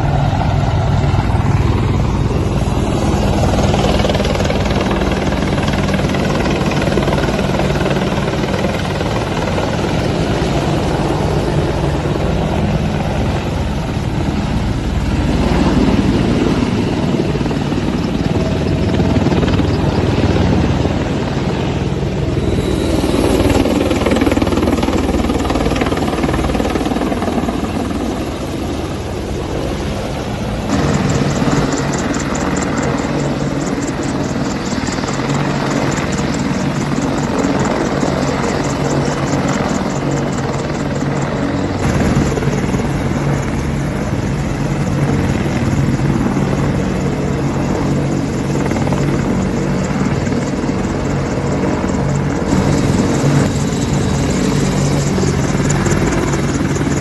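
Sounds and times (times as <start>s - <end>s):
helicopter rotors and engines droning: 0.0s - 57.0s.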